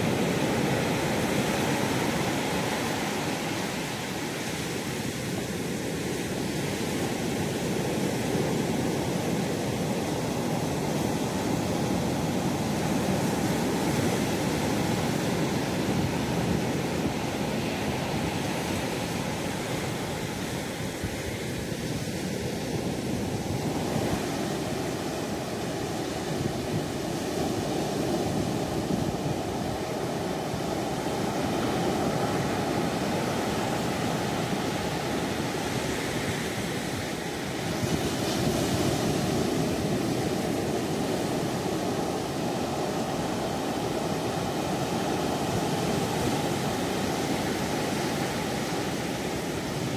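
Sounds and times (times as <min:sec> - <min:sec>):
sea waves: 0:00.0 - 0:49.9
wind: 0:00.0 - 0:49.9.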